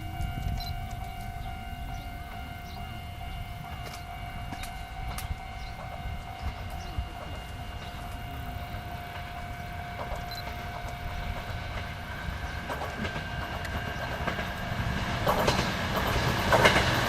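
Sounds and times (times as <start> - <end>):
level crossing alarm: 0.0 - 14.8
train rumble: 0.0 - 17.0.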